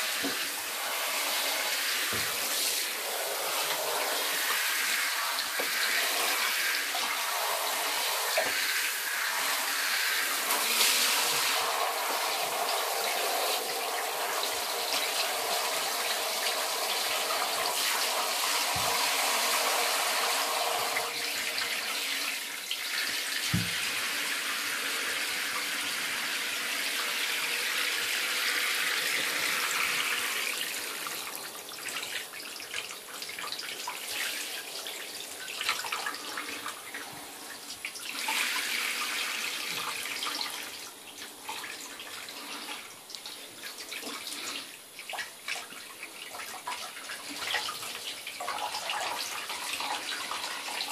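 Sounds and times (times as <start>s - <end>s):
shower spraying water: 0.0s - 50.9s.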